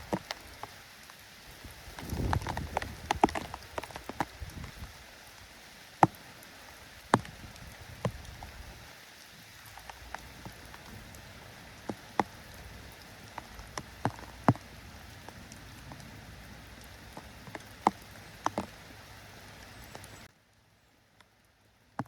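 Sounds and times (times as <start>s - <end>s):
raindrops tapping on hard surface: 0.0s - 20.3s
steady drizzle: 0.0s - 20.7s.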